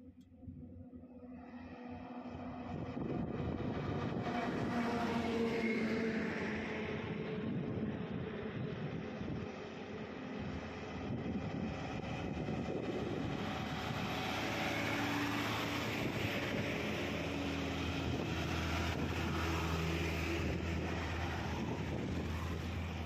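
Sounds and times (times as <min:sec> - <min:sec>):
diesel trucks passing: 0:00.1 - 0:23.0
motorcycle passing: 0:01.2 - 0:23.0
tyre and road noise: 0:01.6 - 0:23.0.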